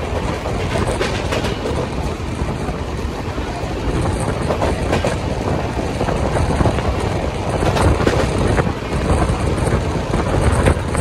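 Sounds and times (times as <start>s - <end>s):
rushing air: 0.0s - 11.0s
train wheels rumbling on rails: 0.0s - 11.0s.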